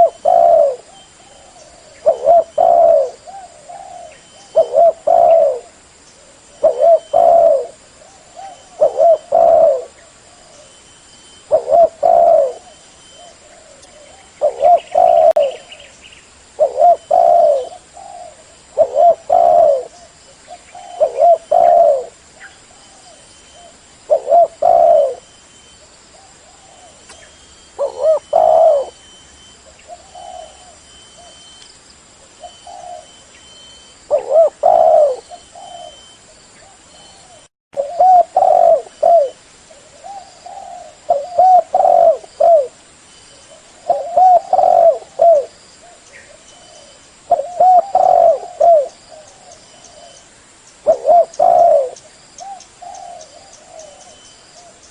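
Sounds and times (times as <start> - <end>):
dove cooing: 0.0 - 10.8, 11.4 - 15.9, 16.6 - 25.3, 26.2 - 31.6, 32.2 - 50.2, 50.8 - 54.9.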